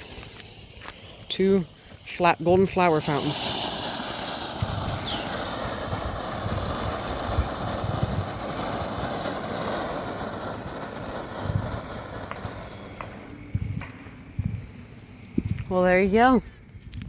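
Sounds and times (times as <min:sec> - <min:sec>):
fountain fireworks hissing: 0:00.0 - 0:14.3
fireworks crackling: 0:00.0 - 0:16.4.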